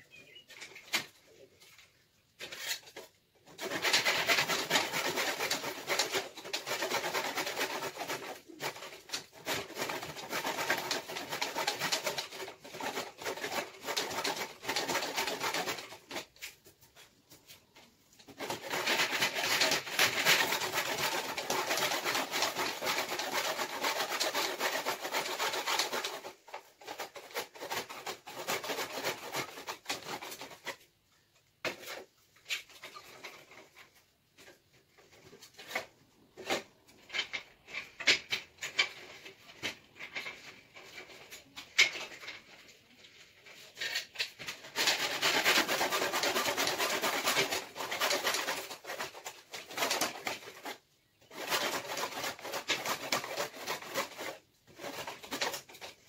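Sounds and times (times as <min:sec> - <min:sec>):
hand saw cutting wood: 0:02.4 - 0:17.1, 0:18.2 - 0:30.9, 0:31.6 - 0:42.7, 0:43.5 - 0:56.0.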